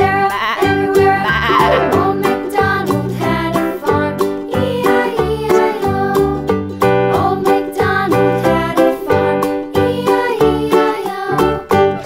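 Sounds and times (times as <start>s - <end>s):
children's music with steady beat: 0.0s - 12.0s.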